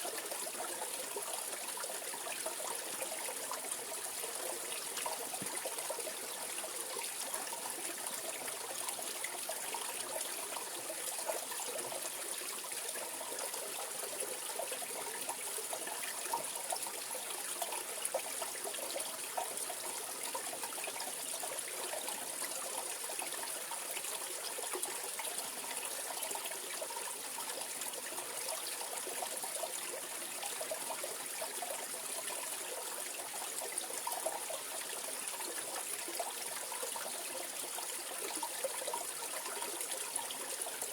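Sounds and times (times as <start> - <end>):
stream flowing with gurgles: 0.0 - 40.9.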